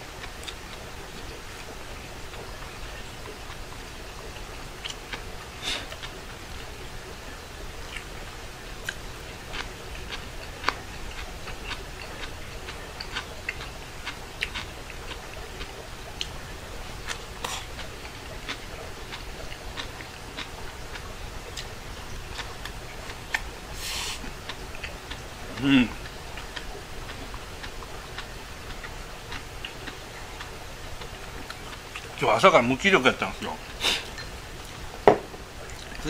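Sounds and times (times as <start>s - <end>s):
chewing: 0.2s - 32.2s, 33.6s - 35.0s, 35.6s - 36.0s.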